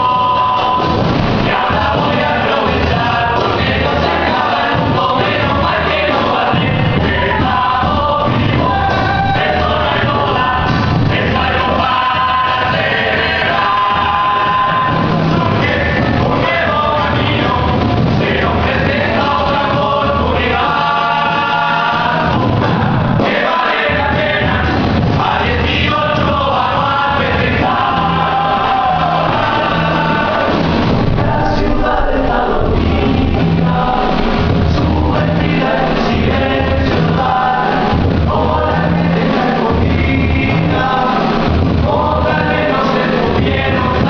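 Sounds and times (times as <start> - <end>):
voices singing together: 0.0 - 44.0.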